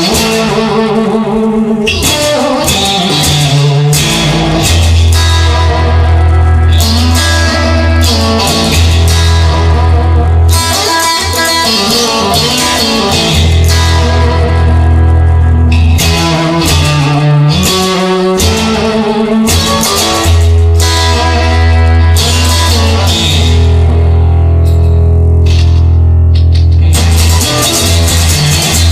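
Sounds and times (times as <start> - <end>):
instrumental rock music: 0.0 - 28.9.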